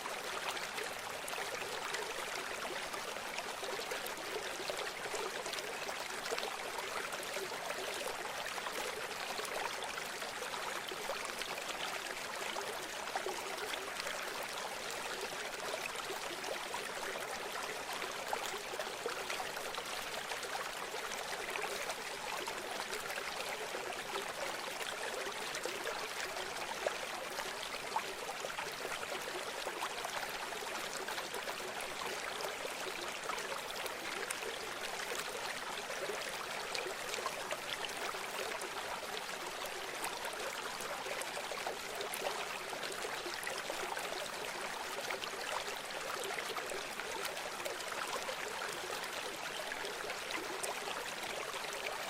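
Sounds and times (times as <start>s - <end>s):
stream water rushing and trickling: 0.0s - 52.0s.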